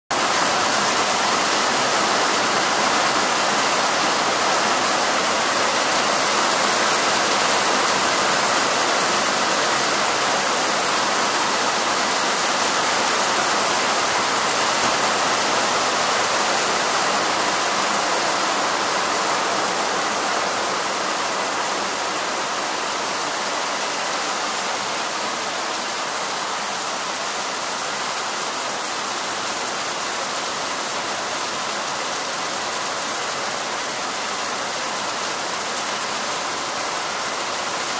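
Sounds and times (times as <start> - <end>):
heavy rain falling: 0.1 - 37.9.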